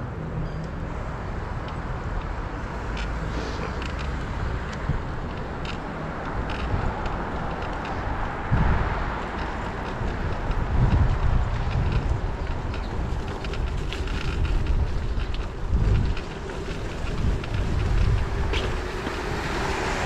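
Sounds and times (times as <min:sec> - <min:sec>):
road and tyre noise: 0:00.0 - 0:20.0
wind buffeting microphone: 0:01.5 - 0:20.0.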